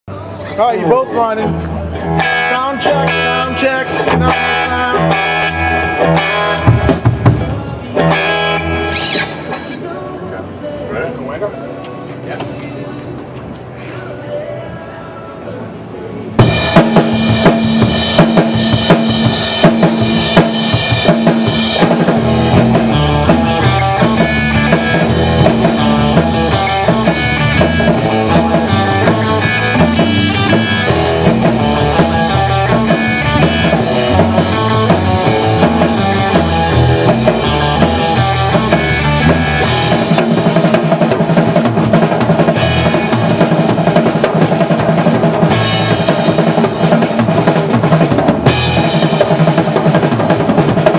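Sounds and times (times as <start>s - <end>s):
live band playing instrumental: 0.4s - 9.8s, 16.3s - 50.9s.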